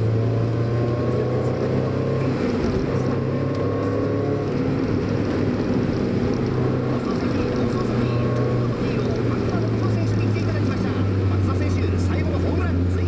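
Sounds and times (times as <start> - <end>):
car engine running from inside: 0.0 - 13.0.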